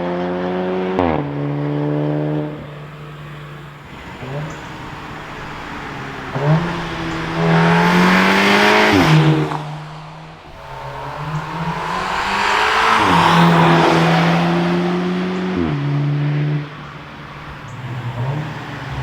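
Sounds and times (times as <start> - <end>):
car engine revving through exhaust: 0.0 - 19.0.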